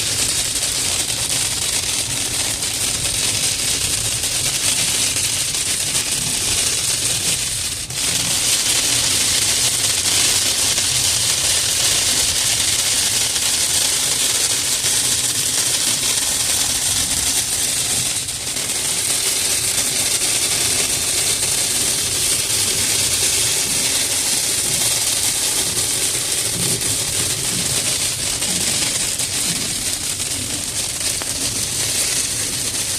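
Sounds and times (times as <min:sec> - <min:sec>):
rain and hail on car roof: 0:00.0 - 0:32.9.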